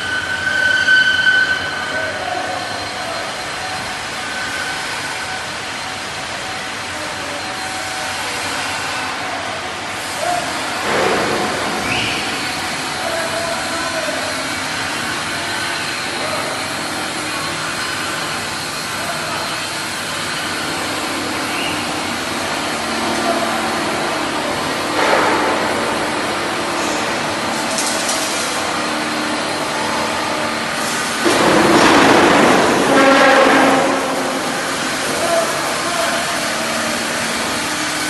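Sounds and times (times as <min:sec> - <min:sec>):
workshop machinery rushing hum: 0:00.0 - 0:38.0.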